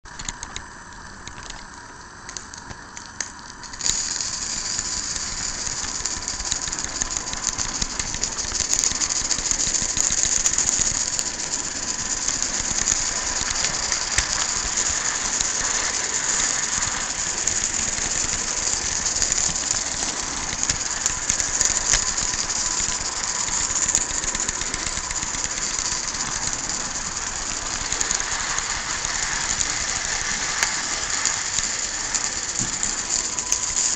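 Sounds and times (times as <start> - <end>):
high hiss: 0.1 - 33.9
model locomotive gear clatter: 0.1 - 33.9.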